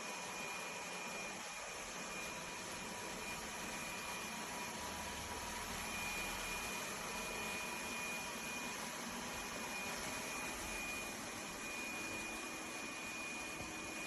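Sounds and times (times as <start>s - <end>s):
robot vacuum whirring: 0.0s - 5.1s, 5.8s - 14.0s.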